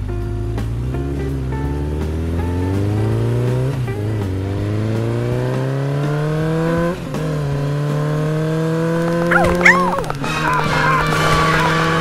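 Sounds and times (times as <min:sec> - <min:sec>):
vehicle engine accelerating: 0:00.0 - 0:12.0.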